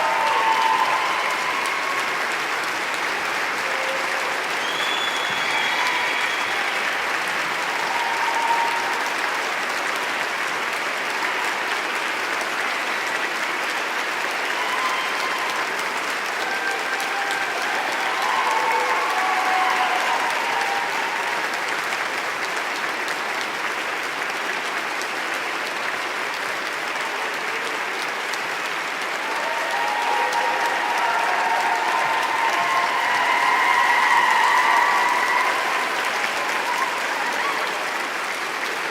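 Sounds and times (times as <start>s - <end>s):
calls from crowd: 0.0s - 38.9s
crowd applauding: 0.0s - 38.9s.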